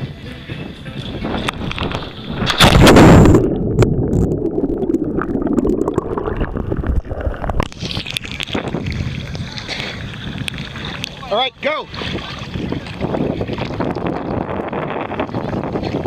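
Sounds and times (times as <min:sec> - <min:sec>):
water and wind: 0:00.0 - 0:16.0
underwater rushing and bubbling: 0:01.0 - 0:16.0.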